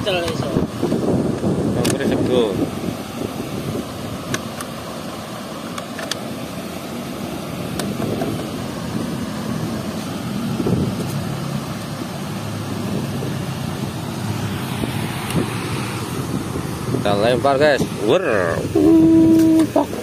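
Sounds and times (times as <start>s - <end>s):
water rushing through sluice gates: 0.0s - 20.0s.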